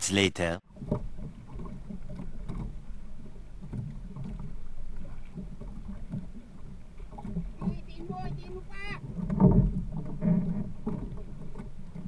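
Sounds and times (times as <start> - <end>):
water lapping against boat hull: 0.6 - 12.0.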